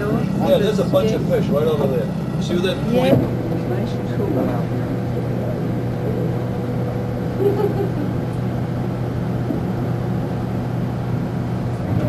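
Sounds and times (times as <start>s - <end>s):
constant hum: 0.0s - 12.0s
train rumbling: 0.0s - 12.0s.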